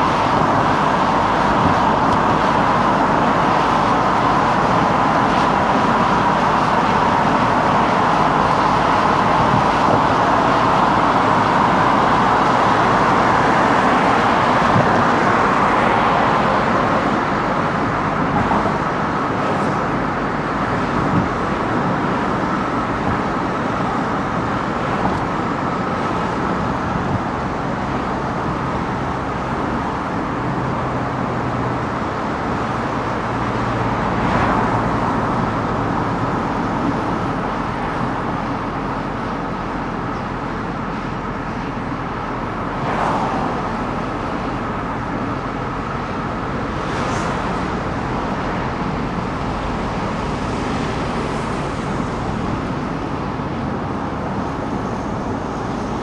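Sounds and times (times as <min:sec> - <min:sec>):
car tyre and road noise: 0:00.0 - 0:56.0.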